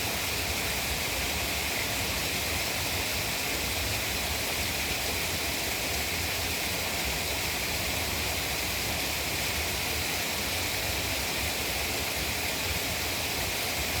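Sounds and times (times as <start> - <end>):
water rushing into pond: 0.0 - 14.0.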